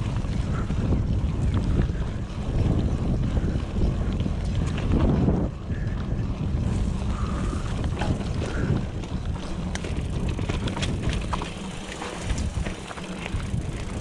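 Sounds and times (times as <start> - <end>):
bike frame rattling and clicking: 0.0 - 14.0
wind buffeting microphone: 0.0 - 14.0.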